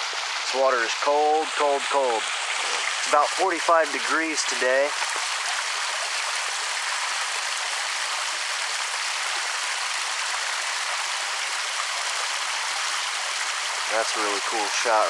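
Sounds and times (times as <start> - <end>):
water splashing over waterfall: 0.0 - 15.0.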